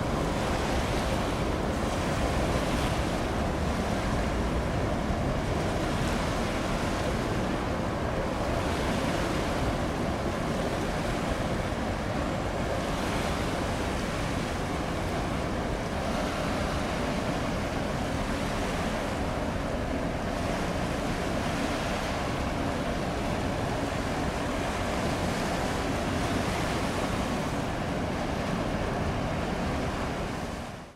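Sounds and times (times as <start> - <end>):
water and wind noise: 0.0 - 30.9.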